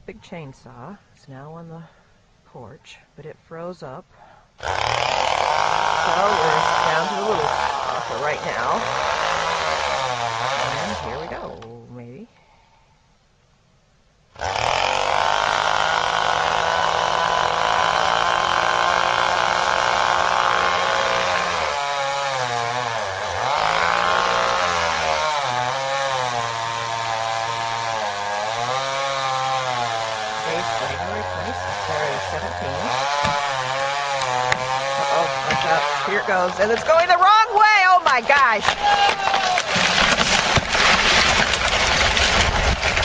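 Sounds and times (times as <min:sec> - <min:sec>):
chainsaw cutting tree trunk: 0:04.6 - 0:11.6, 0:14.4 - 0:43.0.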